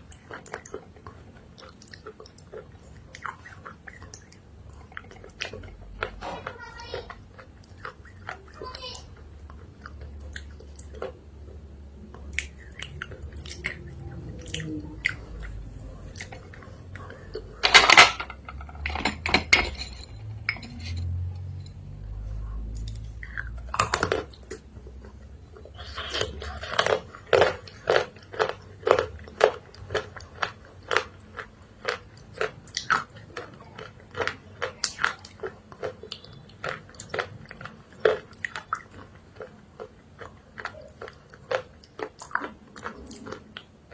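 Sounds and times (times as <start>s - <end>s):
person chewing with crunches: 0.0s - 17.6s, 20.7s - 43.9s.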